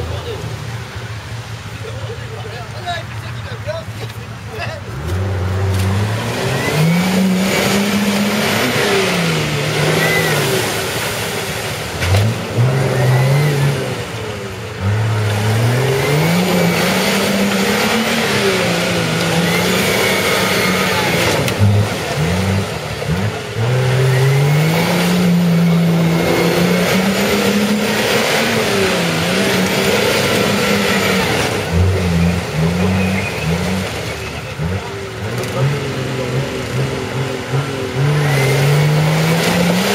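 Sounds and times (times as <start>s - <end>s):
engine revving hard: 4.9s - 39.9s.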